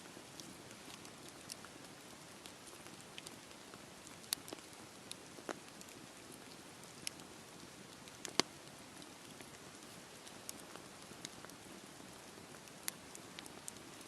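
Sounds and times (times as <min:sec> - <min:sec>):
fire crackling and popping: 0:00.0 - 0:14.0
rain patter: 0:00.0 - 0:14.0.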